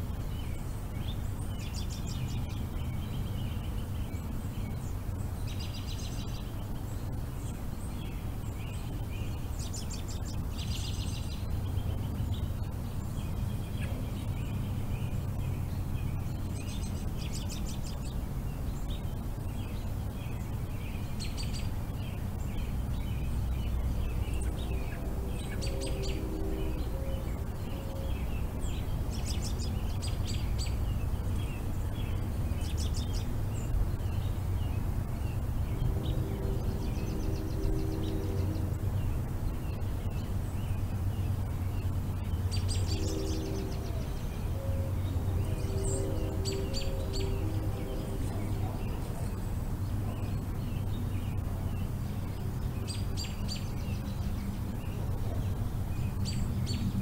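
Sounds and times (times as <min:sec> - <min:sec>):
songbirds chirping: 0:00.0 - 0:57.0
steady low rumble: 0:00.0 - 0:57.0.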